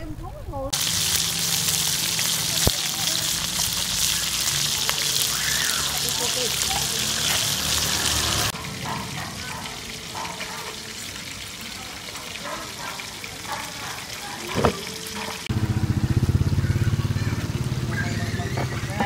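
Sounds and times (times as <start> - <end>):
fish deep-frying in oil: 0.7 - 19.0
faint voices: 2.3 - 7.7, 8.8 - 19.0.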